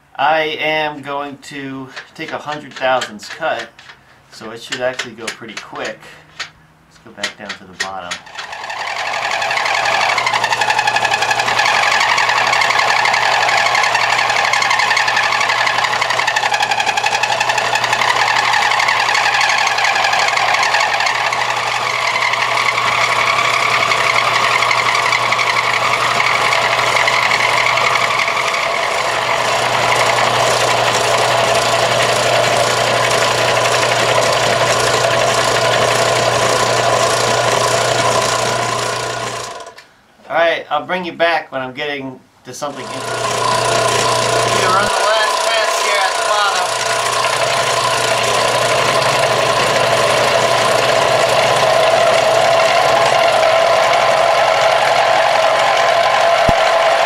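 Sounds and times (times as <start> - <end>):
end mill cutting cast iron: 1.0 - 39.9, 42.6 - 57.0.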